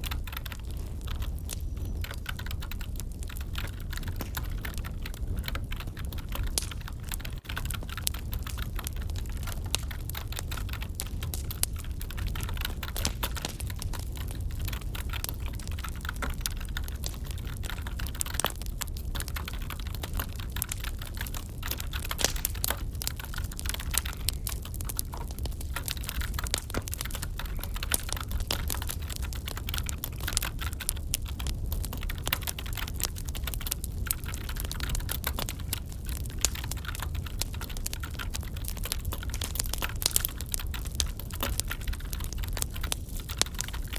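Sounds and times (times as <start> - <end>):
typing on computer keyboard: 0.0 - 43.9
wood fire crackling: 0.0 - 43.9.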